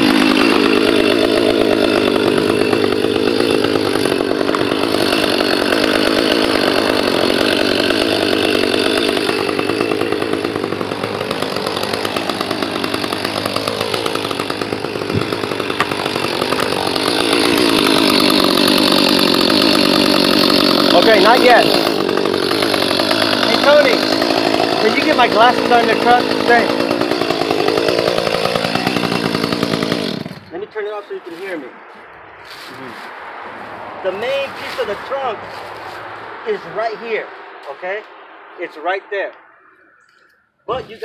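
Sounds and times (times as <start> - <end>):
chainsaw running: 0.0 - 31.7, 33.8 - 37.2.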